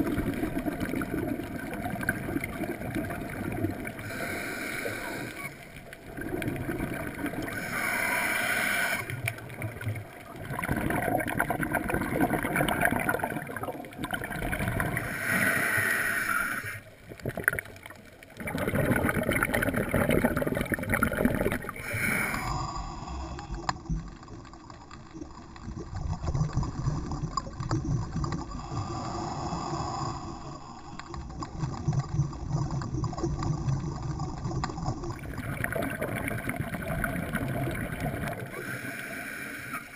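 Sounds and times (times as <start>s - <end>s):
diver exhaust bubbles gurgling: 0.0s - 15.6s, 17.0s - 22.6s, 25.2s - 39.3s.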